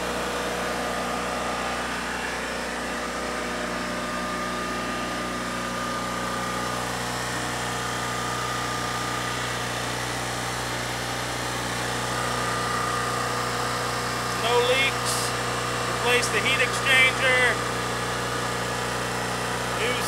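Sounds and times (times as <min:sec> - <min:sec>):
generator engine hum: 0:00.0 - 0:20.0
thin steady whine: 0:00.0 - 0:20.0.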